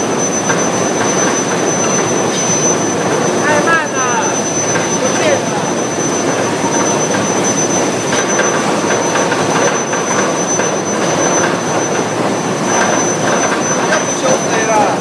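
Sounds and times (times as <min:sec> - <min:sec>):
high steady whine: 0:00.0 - 0:15.0
industrial din: 0:00.0 - 0:15.0.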